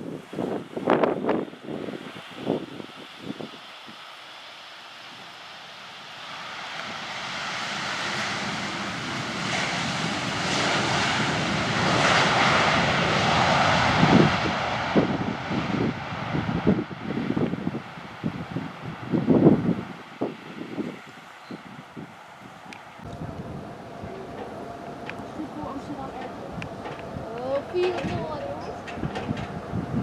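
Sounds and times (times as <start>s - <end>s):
wind buffeting microphone: 0.0s - 4.0s, 6.7s - 30.0s
jet engine roar: 0.0s - 30.0s.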